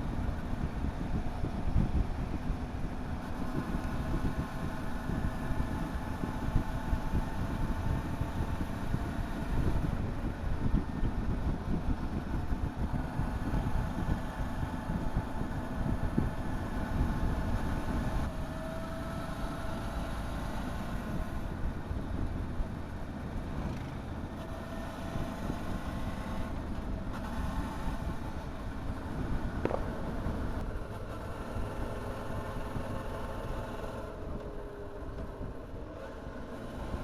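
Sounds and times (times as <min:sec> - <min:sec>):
wind rumble on microphone: 0:00.0 - 0:37.0.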